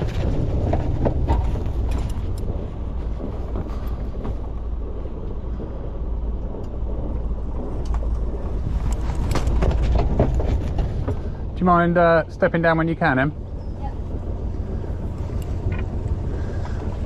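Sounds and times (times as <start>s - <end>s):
boat engine at low revs: 0.0s - 17.0s
wind buffeting microphone: 0.0s - 17.0s.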